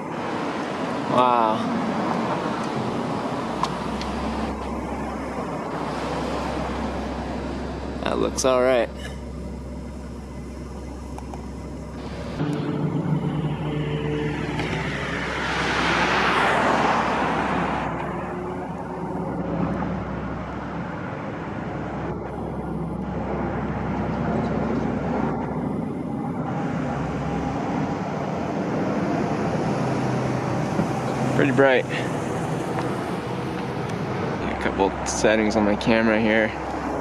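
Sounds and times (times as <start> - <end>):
cars driving past: 0.0 - 37.0.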